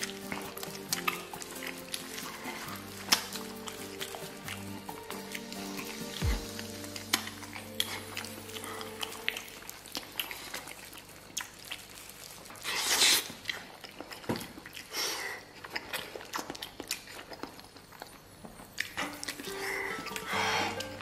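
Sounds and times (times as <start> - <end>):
man chewing with wet smacks: 0.0 - 21.0.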